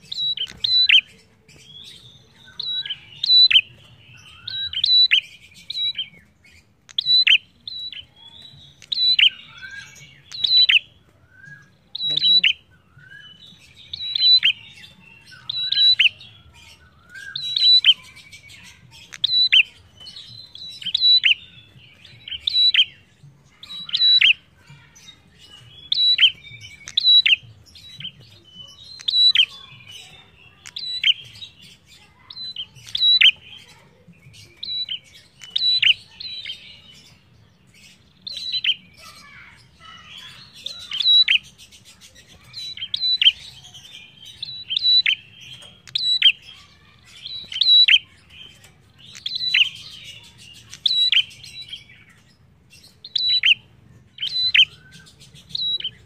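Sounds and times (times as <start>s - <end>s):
bird singing sharp high calls: 0.0s - 56.0s.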